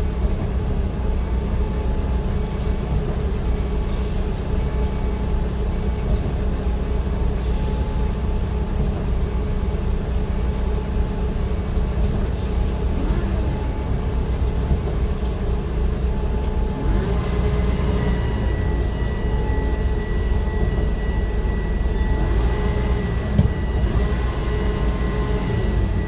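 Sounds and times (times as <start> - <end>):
vehicle rumbling: 0.0 - 26.0.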